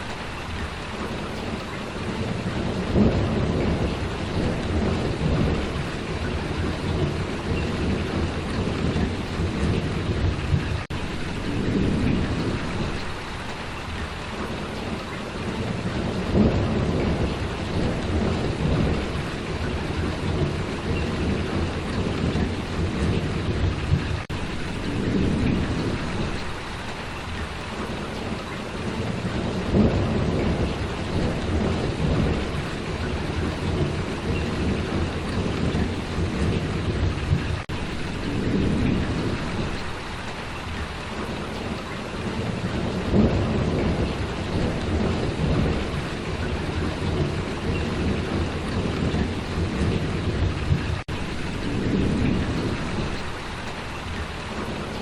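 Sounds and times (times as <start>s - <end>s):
heavy rainfall: 0.0s - 55.0s.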